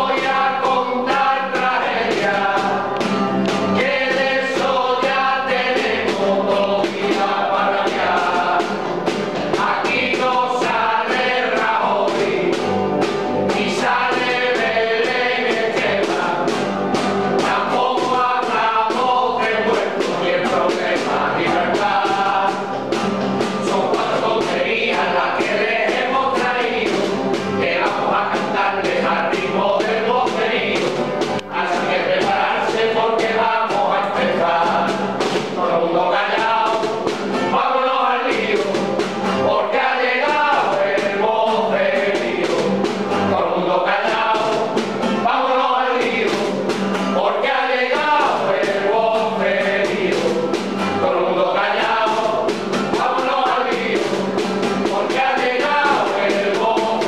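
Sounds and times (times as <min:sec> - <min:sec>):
group of people singing: 0:00.0 - 0:57.0
strummed acoustic guitar: 0:00.0 - 0:57.0.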